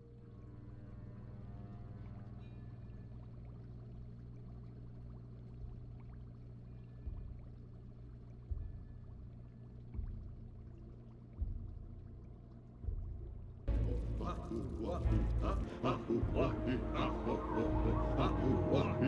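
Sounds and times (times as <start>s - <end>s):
water gurgling: 0.4s - 19.0s.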